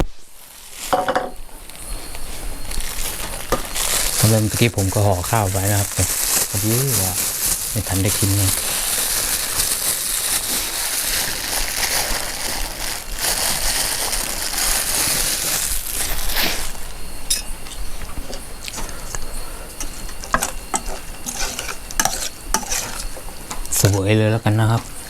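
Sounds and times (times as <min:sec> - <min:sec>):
vegetables sizzling in a pan: 0:00.3 - 0:25.0.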